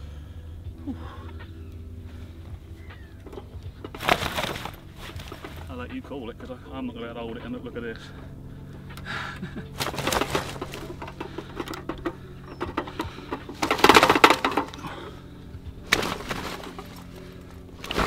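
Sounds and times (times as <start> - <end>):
faint low hum: 0.0 - 18.0
rustling and crackling sling: 0.9 - 18.0.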